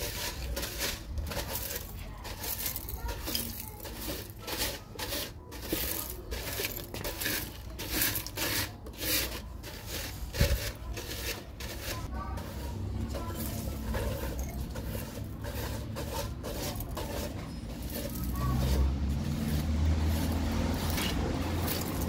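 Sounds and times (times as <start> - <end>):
broom sweeping hard floor: 0.0 - 22.0.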